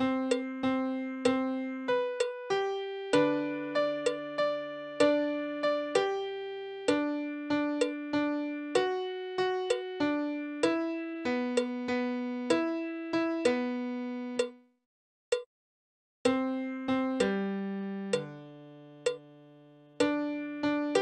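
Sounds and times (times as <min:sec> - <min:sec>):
slow solo piano melody: 0:00.0 - 0:14.5, 0:16.3 - 0:21.0.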